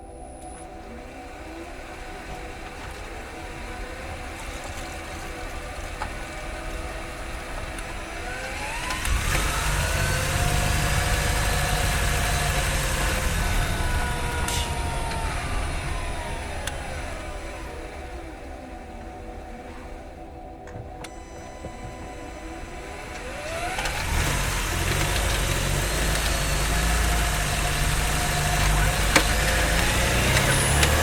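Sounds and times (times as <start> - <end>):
motor and gear whine: 0.0 - 31.0
petrol engine rumble: 0.0 - 31.0.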